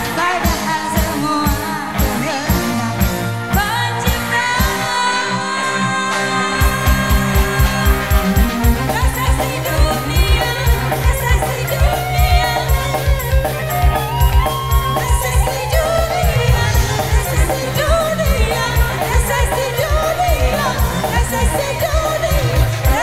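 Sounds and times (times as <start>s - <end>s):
fast drum beat: 0.0s - 4.8s, 6.6s - 23.0s
live band music: 0.0s - 23.0s
woman singing: 0.0s - 23.0s.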